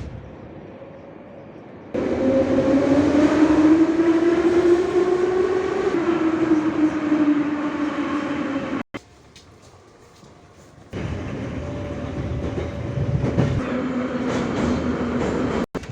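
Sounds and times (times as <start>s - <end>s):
rumble of train cars: 0.0s - 15.9s.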